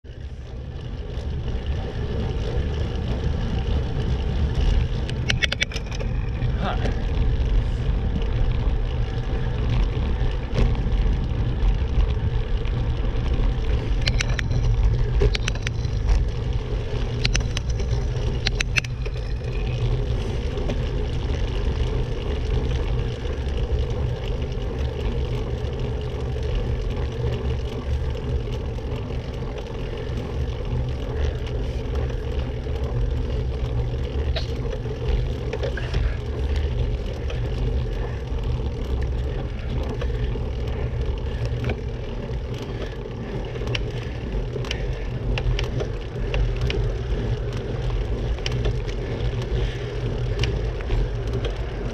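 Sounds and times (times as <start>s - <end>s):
wind and road rumble: 0.0s - 51.9s.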